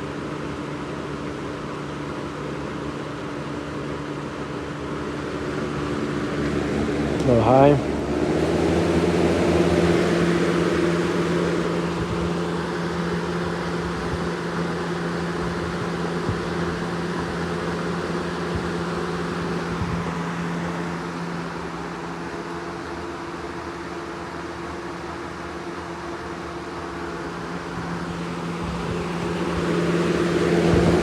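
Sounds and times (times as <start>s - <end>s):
box fan running: 0.0s - 31.0s.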